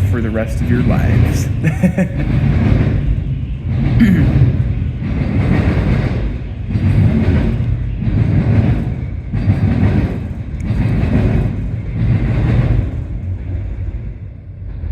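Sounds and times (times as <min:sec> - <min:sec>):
freight train rumbling past: 0:00.0 - 0:14.9.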